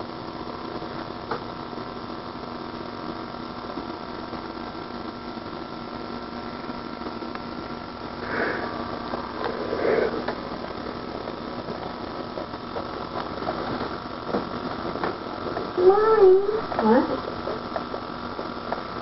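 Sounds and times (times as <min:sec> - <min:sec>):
steady electrical hum: 0:00.0 - 0:19.0
tape hiss: 0:00.0 - 0:19.0.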